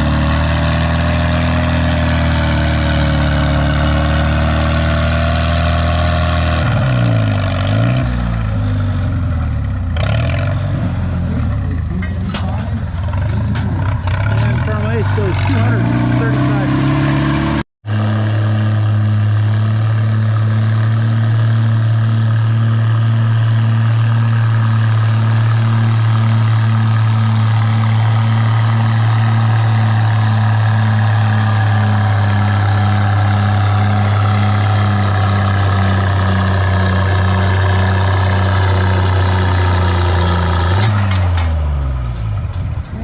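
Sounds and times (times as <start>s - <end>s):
tractor engine under load: 0.0s - 43.0s.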